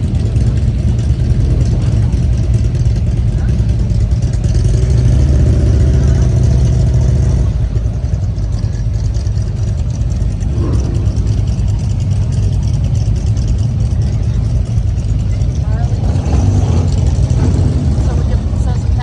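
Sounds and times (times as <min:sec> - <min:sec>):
motorcycle engines at low revs: 0:00.0 - 0:19.0.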